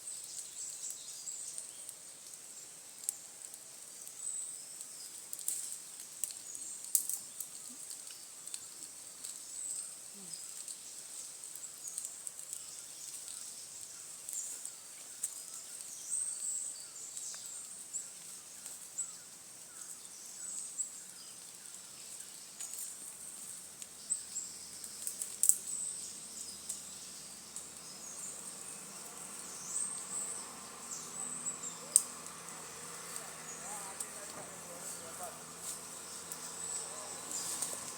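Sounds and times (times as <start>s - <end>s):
insects trilling: 3.4s - 37.9s.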